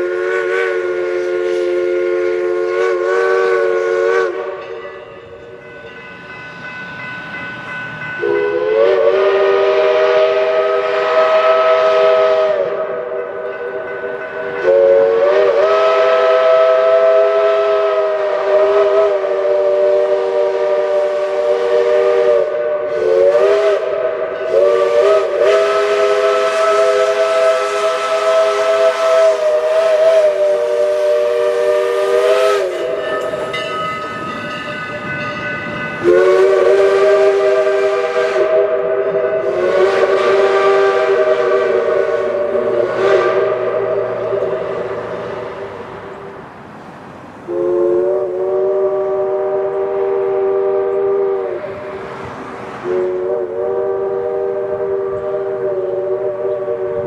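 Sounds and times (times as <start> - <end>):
steam locomotive chime whistle: 0.0 - 46.6, 47.4 - 57.0.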